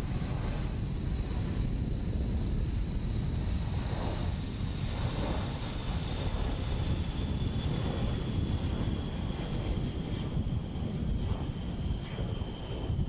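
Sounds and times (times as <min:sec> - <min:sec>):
jet engines at takeoff thrust: 0:00.0 - 0:13.0
wind buffeting microphone: 0:00.0 - 0:13.0.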